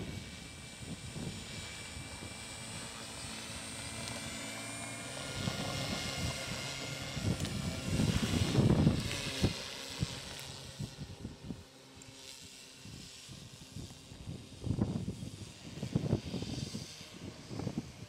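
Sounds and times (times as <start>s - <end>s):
model airplane motor whining: 0.0s - 18.0s.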